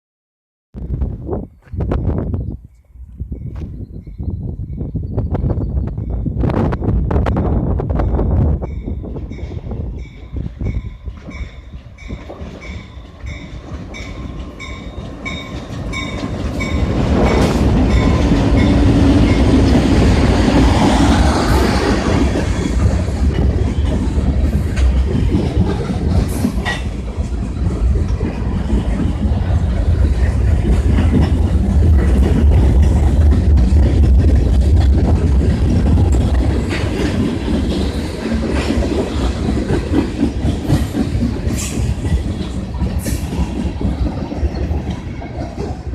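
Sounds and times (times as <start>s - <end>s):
train cars rumbling over rails: 0.8s - 45.9s
train passing: 1.9s - 45.9s.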